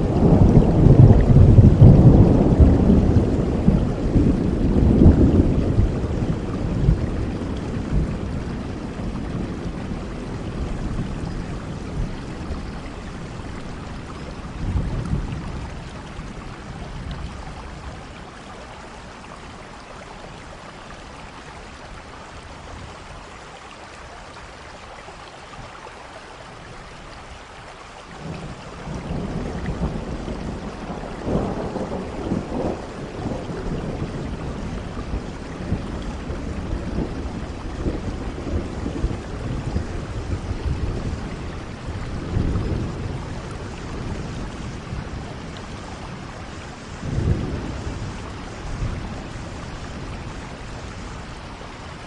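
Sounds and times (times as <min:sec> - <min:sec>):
low thunder rumbles: 0:00.0 - 0:23.3, 0:28.2 - 0:52.0
steady rain falling: 0:00.0 - 0:52.0.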